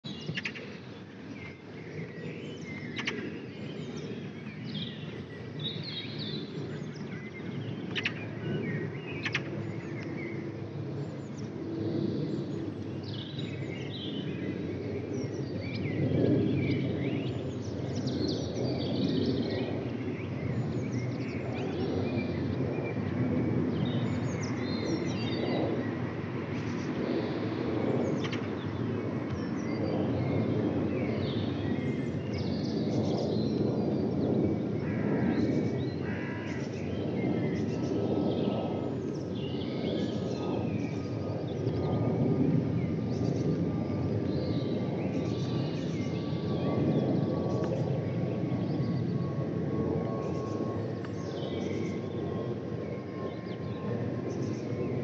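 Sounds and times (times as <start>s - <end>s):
jet airliner rumble with howl: 0.0s - 55.0s.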